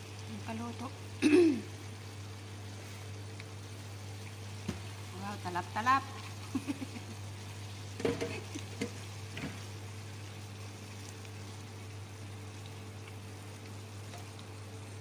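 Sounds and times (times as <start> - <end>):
eggplant sizzling in a pan: 0.0 - 15.0.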